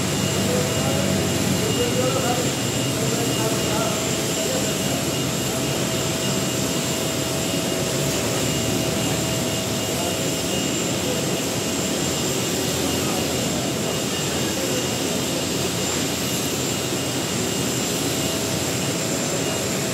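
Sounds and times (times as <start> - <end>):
jet aircraft noise: 0.0 - 19.9.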